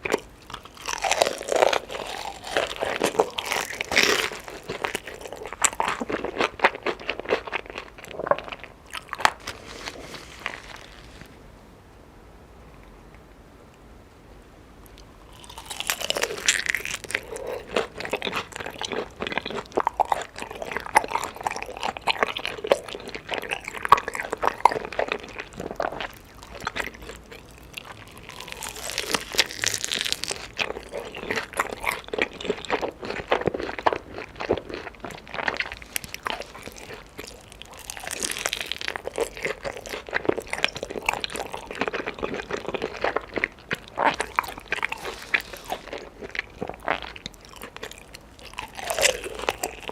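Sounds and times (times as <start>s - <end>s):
crackly chewing of chicken: 0.0s - 11.3s, 14.8s - 49.9s.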